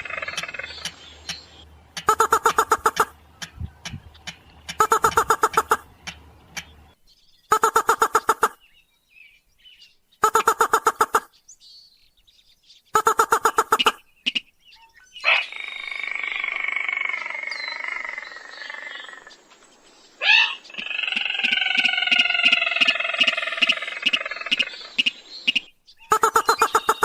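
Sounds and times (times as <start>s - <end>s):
rails and crakes calling: 0.0s - 8.6s, 10.2s - 11.3s, 13.0s - 14.5s, 15.2s - 27.0s.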